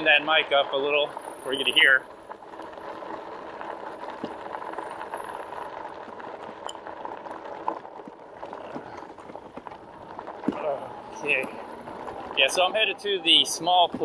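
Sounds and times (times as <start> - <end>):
bike rattling and clicking: 0.0 - 14.0
tyres crunching on gravel: 0.0 - 14.0.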